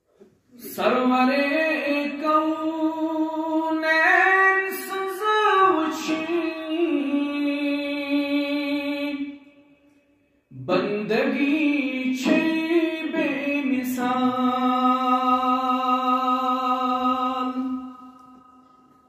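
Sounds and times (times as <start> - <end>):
man singing unaccompanied: 0.6 - 9.4, 10.5 - 18.1.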